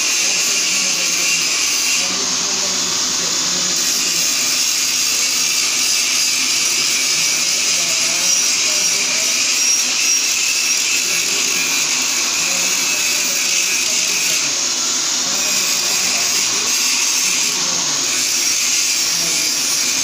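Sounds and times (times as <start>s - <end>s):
angle grinder grinding steel: 0.0s - 20.0s.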